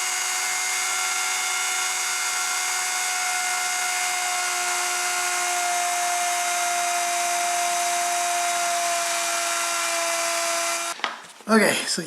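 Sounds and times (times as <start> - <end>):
electric router whining: 0.0 - 11.0.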